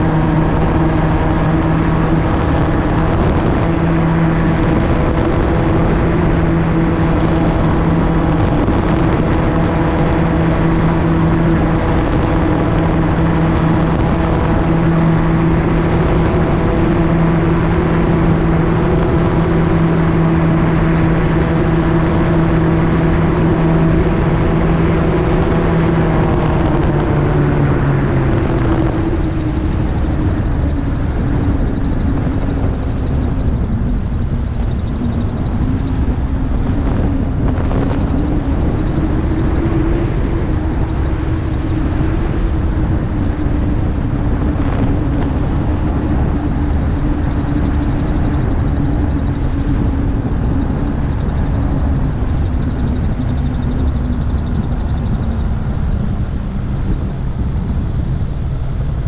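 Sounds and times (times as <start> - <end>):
gyroplane engine and propeller: 0.0 - 59.0
wind rushing: 0.0 - 59.0.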